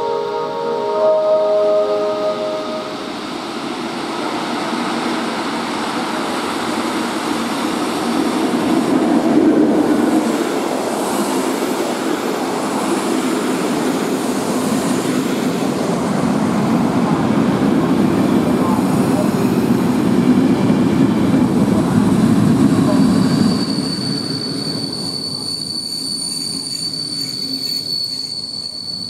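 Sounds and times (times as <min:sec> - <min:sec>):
train rolling: 0:00.0 - 0:29.0.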